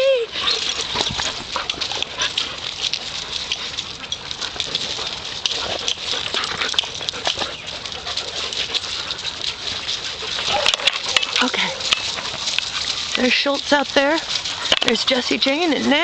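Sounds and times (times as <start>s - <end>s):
dogs pattering and scuffling: 0.0s - 16.0s.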